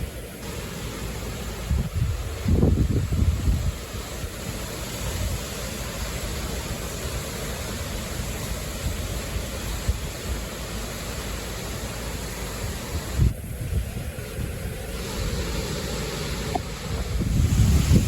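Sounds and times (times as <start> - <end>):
strong gusty wind: 0.0 - 10.9, 12.0 - 18.0
wind buffeting microphone: 1.4 - 10.5, 12.6 - 18.0.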